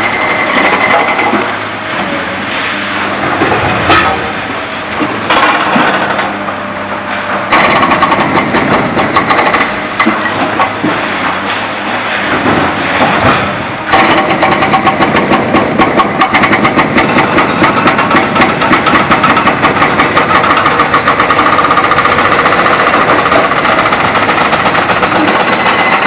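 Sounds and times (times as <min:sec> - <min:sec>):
hydraulic breaker hammering concrete: 0:00.0 - 0:01.6, 0:03.3 - 0:04.4, 0:05.0 - 0:06.4, 0:07.3 - 0:11.5, 0:12.2 - 0:26.0
diesel engines running: 0:00.0 - 0:26.0.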